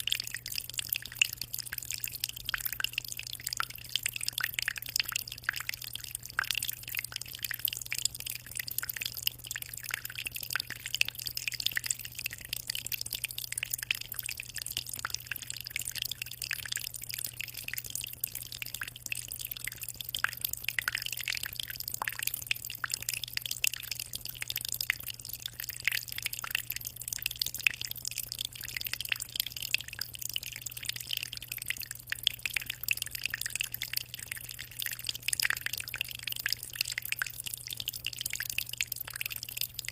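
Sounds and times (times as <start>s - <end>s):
aquarium water splashing: 0.0s - 39.9s.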